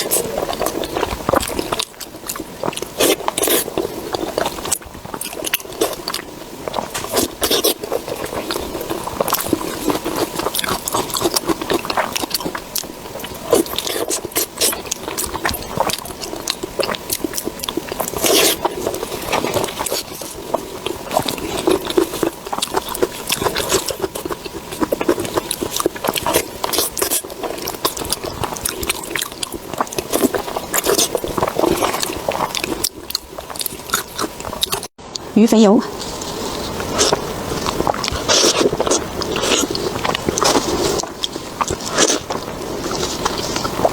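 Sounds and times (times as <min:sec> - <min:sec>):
person chewing food: 0:00.0 - 0:35.2, 0:36.0 - 0:43.9.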